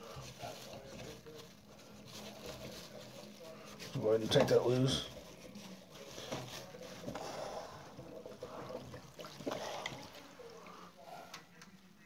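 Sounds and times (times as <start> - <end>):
water trickling into plastic bag: 0.0 - 11.0
plastic rustling: 0.0 - 11.4.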